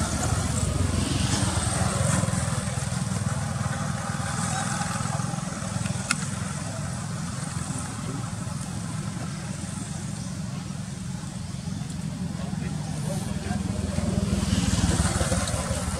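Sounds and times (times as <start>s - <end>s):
motor engine running: 0.0s - 15.9s.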